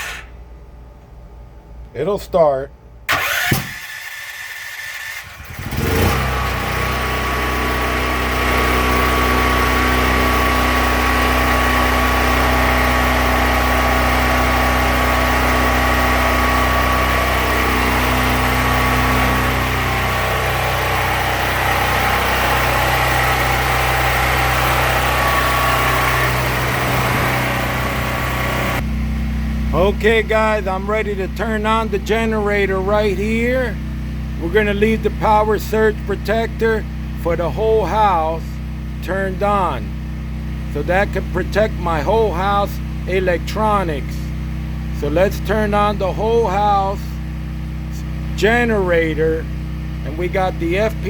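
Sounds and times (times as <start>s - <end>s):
generator engine running: 0.0s - 51.0s.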